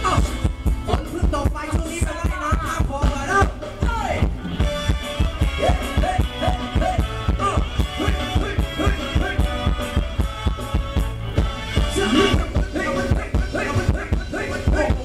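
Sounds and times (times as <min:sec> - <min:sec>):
live band dance music: 0:00.0 - 0:15.0.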